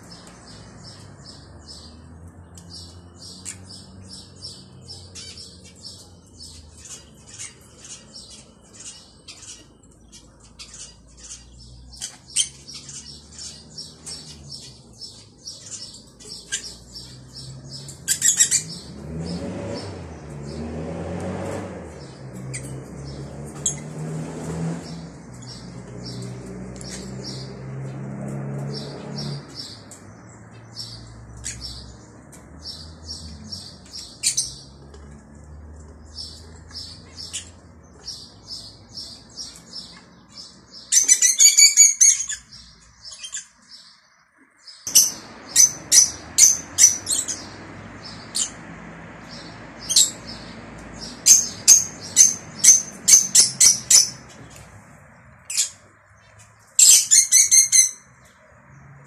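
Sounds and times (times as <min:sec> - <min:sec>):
shrill rapid bird chirps: 0:00.0 - 0:20.7, 0:28.6 - 0:34.8, 0:36.0 - 0:58.4
lovebirds twittering: 0:00.0 - 0:20.9, 0:21.5 - 0:59.0.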